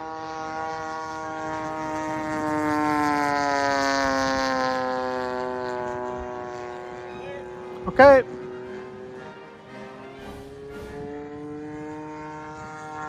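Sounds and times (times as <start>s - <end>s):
model aircraft engine flyby: 0.0s - 13.0s.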